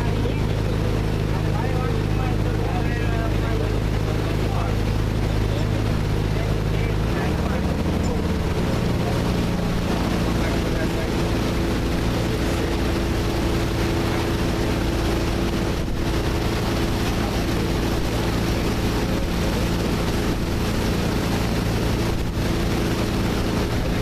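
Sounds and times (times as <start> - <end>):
speedboat engine running: 0.0 - 24.0
water rushing over hull: 0.0 - 24.0.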